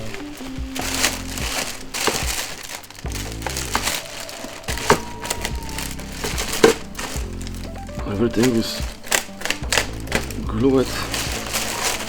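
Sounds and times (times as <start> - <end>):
background music with held notes: 0.0 - 12.0
packaging crinkling and rustling: 0.0 - 12.0.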